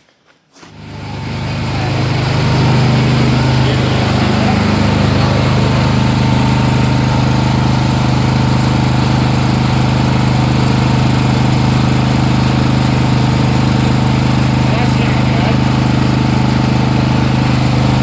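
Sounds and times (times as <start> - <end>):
small gas engine running: 0.6 - 18.0.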